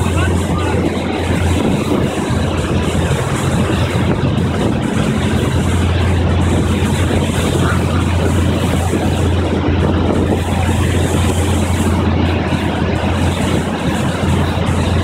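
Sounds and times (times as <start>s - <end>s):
motorboat engine hum: 0.0s - 15.0s
rushing water and wind: 0.0s - 15.0s.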